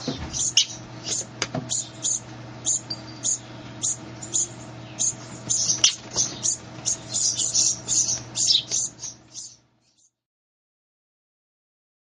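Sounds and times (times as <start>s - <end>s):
bird squeaky calls: 0.0s - 10.1s
faint steady hum: 0.0s - 10.2s.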